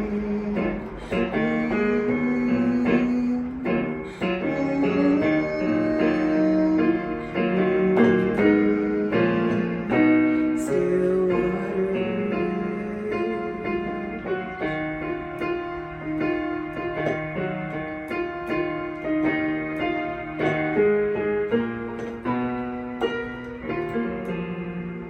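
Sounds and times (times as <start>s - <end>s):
piano playing chords: 0.0s - 25.0s.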